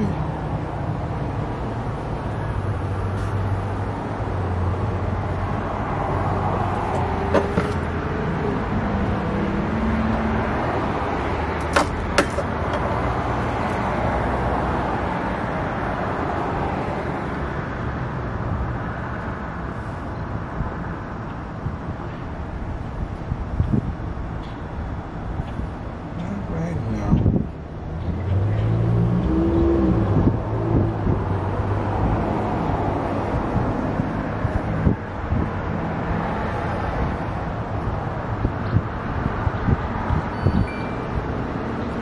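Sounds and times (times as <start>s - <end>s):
car engine and road noise: 0.0s - 42.0s.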